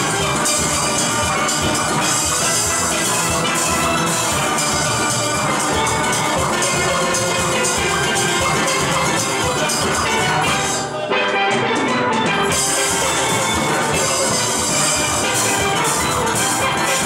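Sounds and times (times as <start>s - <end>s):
drums and percussion: 0.0s - 17.0s
steel band playing: 0.0s - 17.0s.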